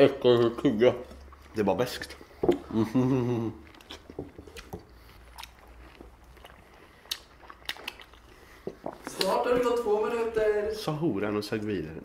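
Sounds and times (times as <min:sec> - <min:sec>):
chewing oranges: 0:00.0 - 0:09.8.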